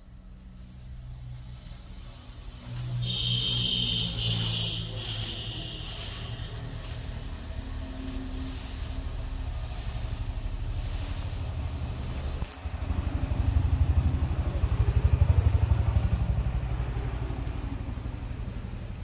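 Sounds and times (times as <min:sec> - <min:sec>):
motorcycle engine running: 0:01.6 - 0:19.0.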